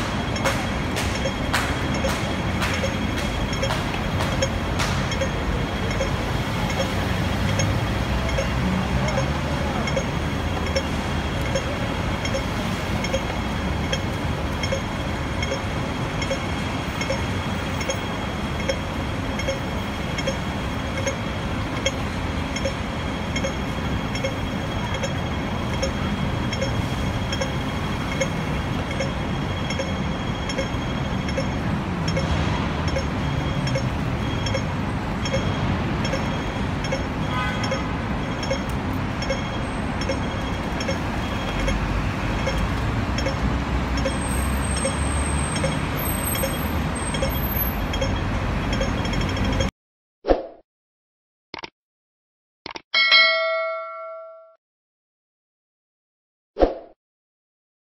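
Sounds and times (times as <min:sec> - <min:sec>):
crossing signal ticking: 0:00.0 - 0:49.7
street traffic noise: 0:00.0 - 0:49.7, 0:53.0 - 0:54.2.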